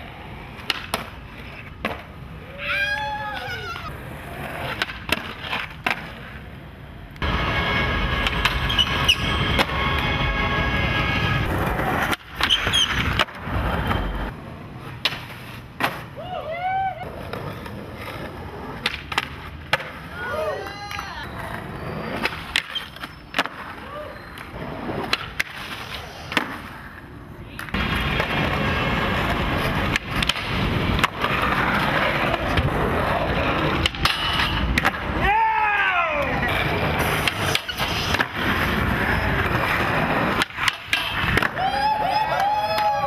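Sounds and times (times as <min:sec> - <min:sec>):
skateboard clacking on ground: 0:00.0 - 0:10.5, 0:11.4 - 0:35.4, 0:36.1 - 0:43.0
skateboard wheels rolling on concrete: 0:00.0 - 0:43.0.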